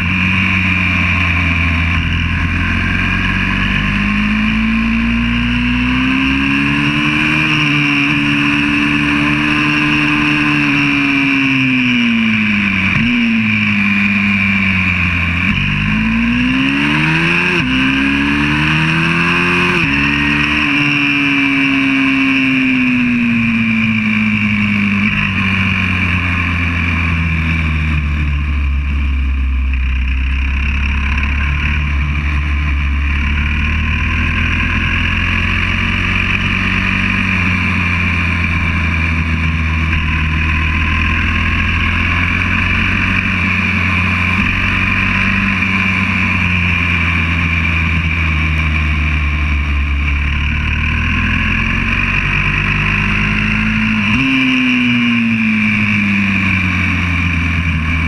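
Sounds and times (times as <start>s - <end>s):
pit bike engine running: 0.0s - 58.0s.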